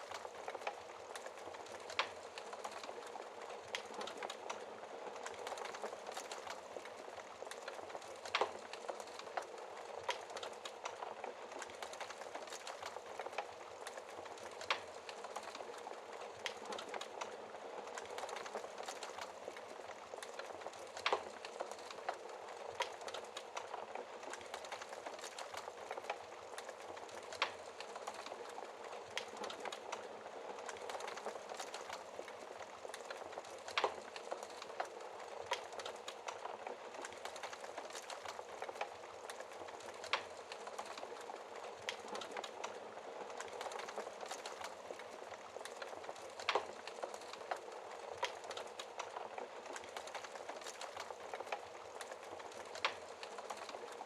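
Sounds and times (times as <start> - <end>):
wood fire hissing and crackling: 0.0 - 54.0.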